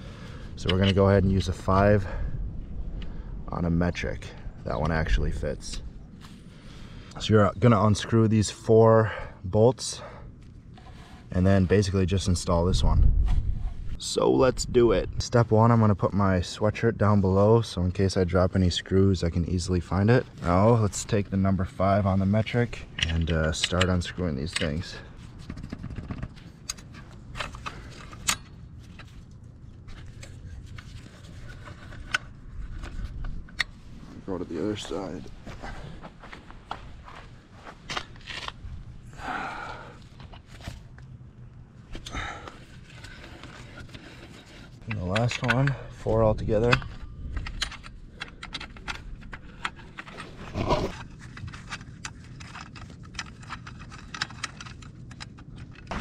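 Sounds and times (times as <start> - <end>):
low steady rumble: 0.0 - 56.0.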